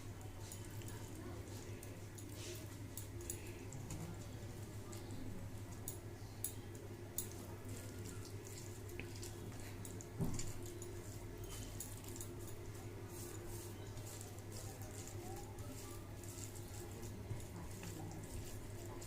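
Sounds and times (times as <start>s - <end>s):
wet chewing and mixing sounds: 0.1s - 19.0s.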